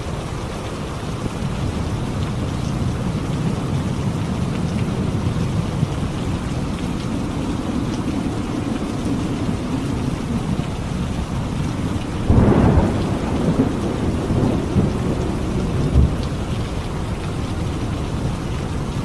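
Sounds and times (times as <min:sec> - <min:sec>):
heavy rain: 0:00.0 - 0:19.0
thunder rumbling: 0:01.2 - 0:19.0.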